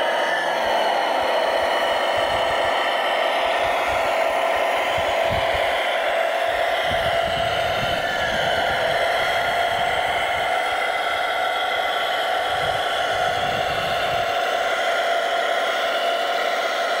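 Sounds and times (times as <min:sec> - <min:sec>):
model loader motor whining: 0:00.0 - 0:17.0.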